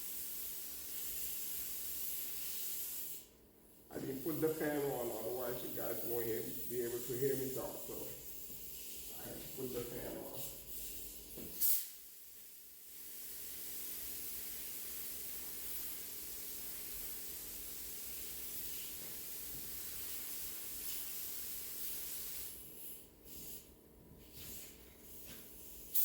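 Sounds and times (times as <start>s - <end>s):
spray gun hissing: 0.0s - 3.3s, 3.9s - 12.1s, 12.9s - 23.6s, 24.4s - 26.0s.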